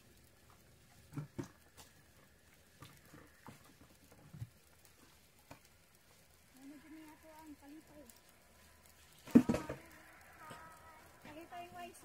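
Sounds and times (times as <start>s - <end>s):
quiet hiss: 0.0s - 12.0s.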